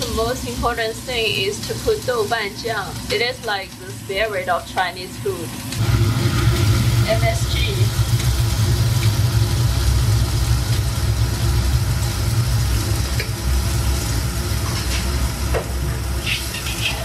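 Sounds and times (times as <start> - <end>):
gas burner rumble and hiss: 0.0 - 17.0.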